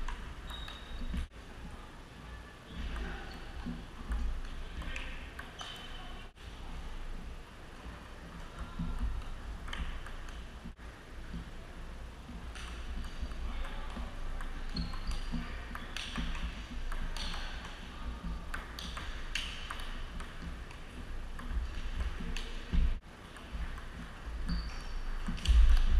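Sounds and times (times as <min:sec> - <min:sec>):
faint clicks from other tables: 0:02.8 - 0:06.3, 0:07.2 - 0:25.9.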